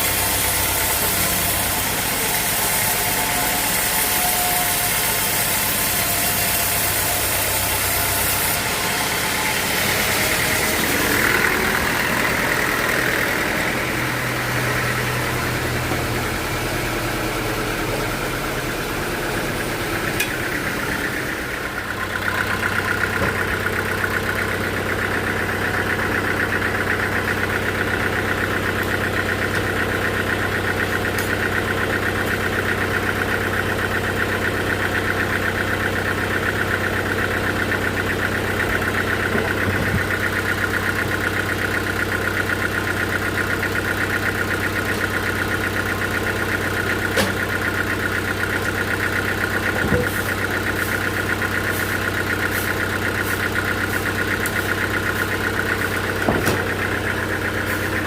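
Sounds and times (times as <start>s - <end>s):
sawmill machinery hum and whine: 0.0s - 58.0s.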